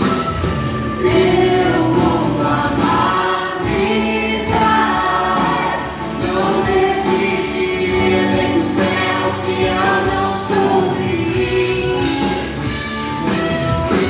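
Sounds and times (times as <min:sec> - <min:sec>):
choir singing gospel song: 0:00.0 - 0:12.6
band accompaniment: 0:00.0 - 0:14.0.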